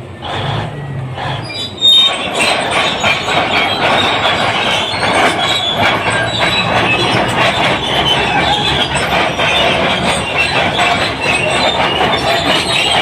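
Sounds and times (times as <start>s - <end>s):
bulldozer diesel engine running: 0.0s - 13.0s
steel tracks clanking and squealing: 0.0s - 13.0s.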